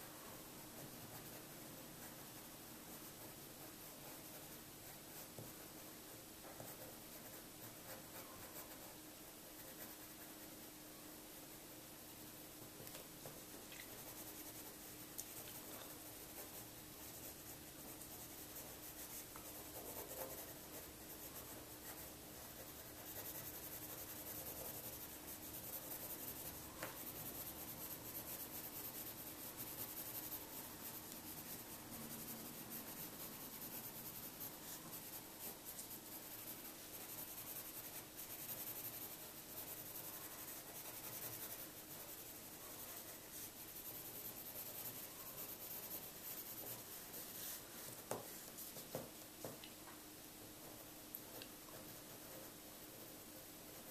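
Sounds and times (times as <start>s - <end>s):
pencil scratching on paper: 0.4s - 10.6s, 13.2s - 49.0s, 51.7s - 53.9s.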